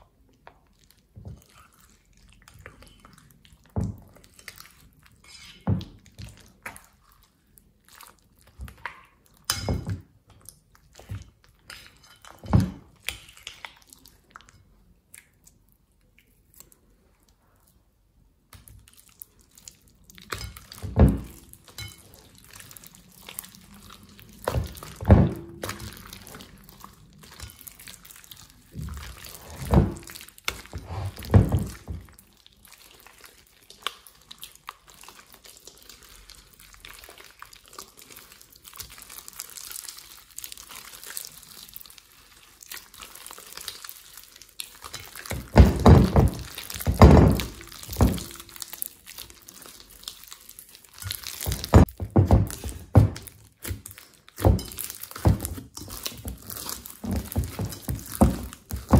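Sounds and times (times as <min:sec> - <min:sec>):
slime squelching by hand: 0:00.0 - 0:58.9.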